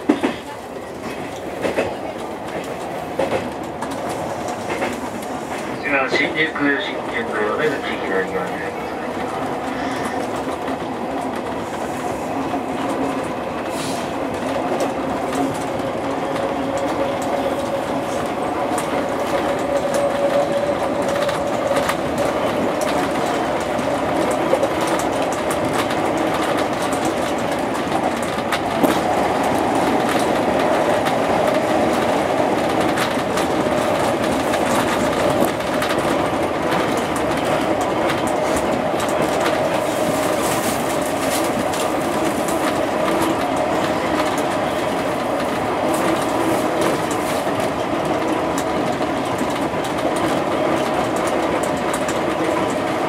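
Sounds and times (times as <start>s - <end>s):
electric train rumble: 0.0s - 53.0s.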